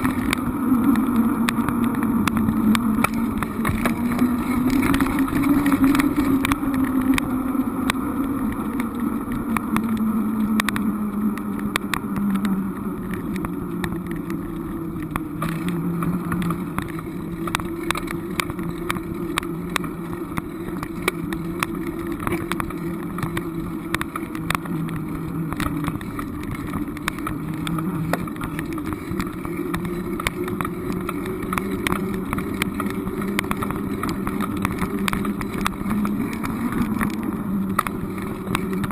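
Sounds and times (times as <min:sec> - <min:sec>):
motor vehicle engine drone: 0:00.0 - 0:38.9.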